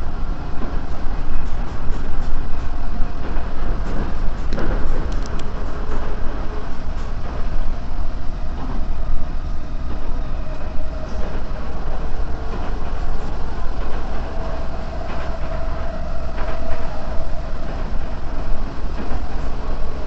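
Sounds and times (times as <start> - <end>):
heavy rain on train car: 0.0 - 20.0
train wheels rumbling on rails: 0.0 - 20.0.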